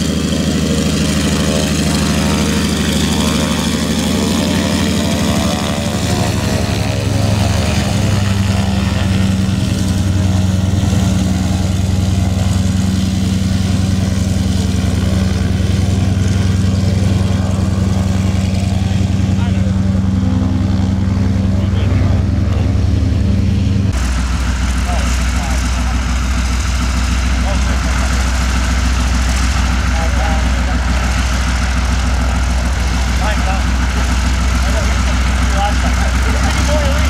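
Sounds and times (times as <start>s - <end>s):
radial aircraft engine running: 0.0s - 37.0s.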